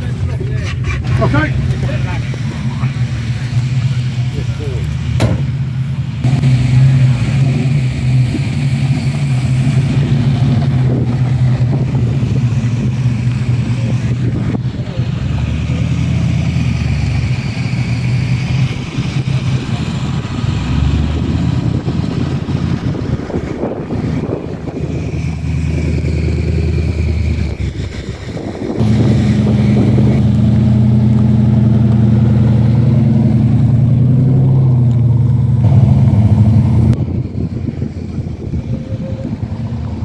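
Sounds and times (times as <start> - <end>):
car engine running at low revs: 0.0 - 40.0.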